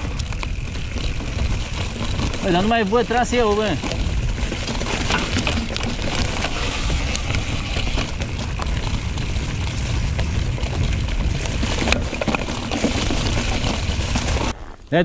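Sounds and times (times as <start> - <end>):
bike rattling clicks: 0.0 - 14.6
wind buffeting microphone: 0.0 - 14.8
tyres crunching over ground: 0.0 - 15.0.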